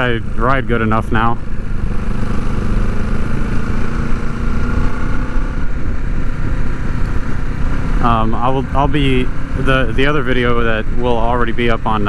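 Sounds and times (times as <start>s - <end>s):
motorcycle engine running: 0.0s - 12.0s
wind and road rush: 0.0s - 12.0s.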